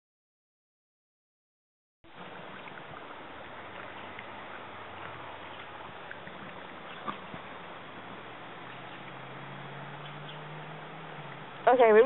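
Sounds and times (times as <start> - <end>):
faint low hum: 2.1 - 12.0
steady rushing ambient noise: 2.1 - 12.0.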